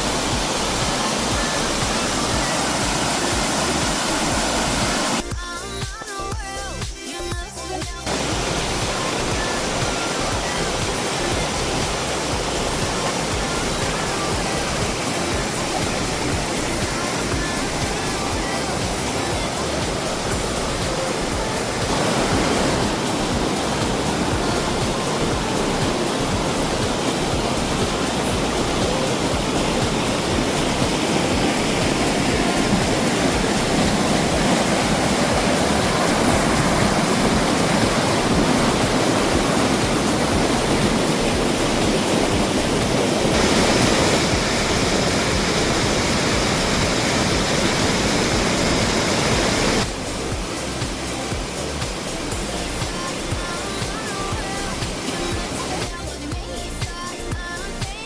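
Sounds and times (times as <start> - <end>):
stream rushing over rocks: 0.0 - 5.4, 8.0 - 58.0.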